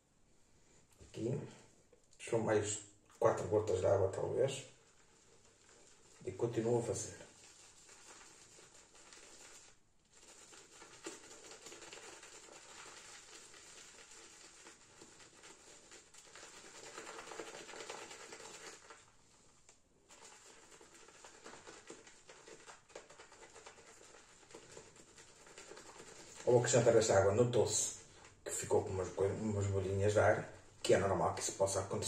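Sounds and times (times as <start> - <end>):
shaving brush swishing in bowl: 3.4 - 32.0.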